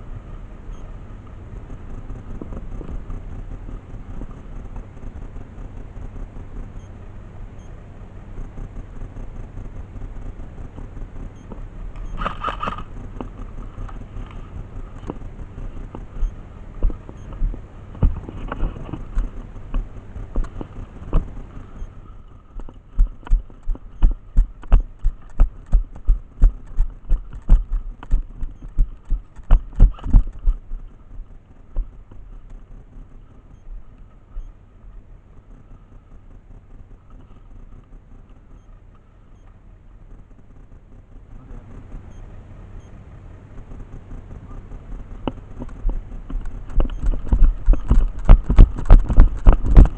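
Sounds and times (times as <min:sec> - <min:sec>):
rustle: 0:00.0 - 0:49.9.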